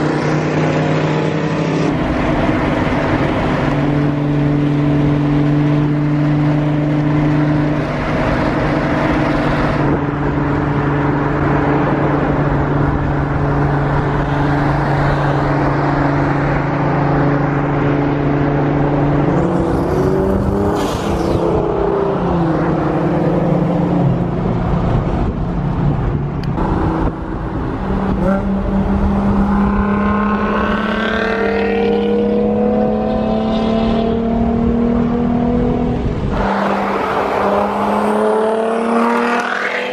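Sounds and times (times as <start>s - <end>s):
car engine drone: 0.0s - 39.9s
road and wind noise: 0.0s - 39.9s.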